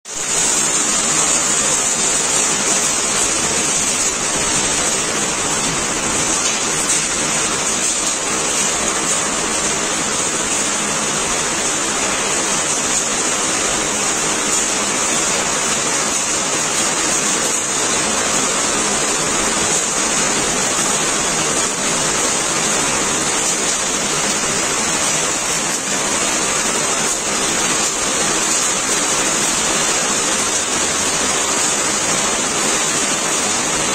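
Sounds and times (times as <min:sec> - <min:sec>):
heavy rain on pavement: 0:00.0 - 0:33.9.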